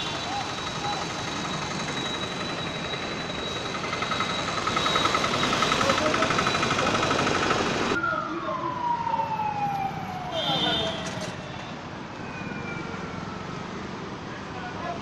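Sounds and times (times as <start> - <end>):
vehicle siren: 0.0 - 14.2
traffic noise: 0.0 - 15.0.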